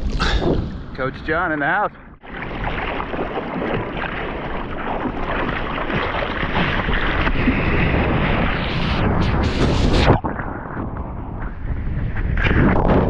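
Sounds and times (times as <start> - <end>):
sea water rushing and splashing: 0.0 - 13.0
wind buffeting microphone: 0.0 - 13.0.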